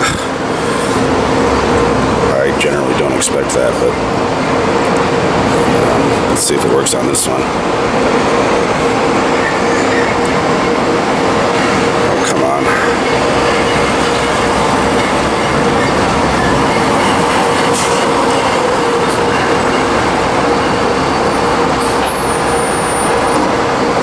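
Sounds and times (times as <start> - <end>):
city street traffic: 0.0 - 24.0
steady hum: 0.0 - 24.0.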